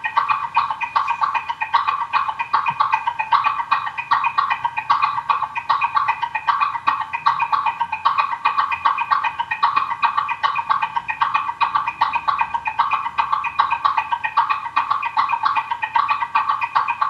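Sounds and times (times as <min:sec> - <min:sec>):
rhythmic bird-like chirping: 0:00.0 - 0:17.0.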